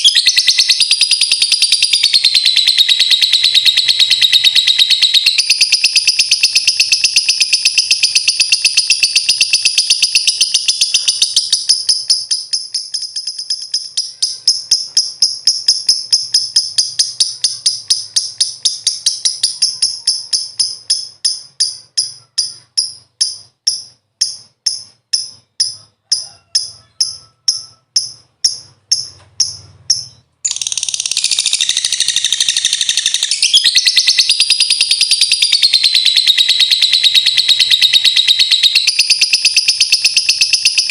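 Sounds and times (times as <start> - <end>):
lovebird chattering trill: 0.0 - 40.9.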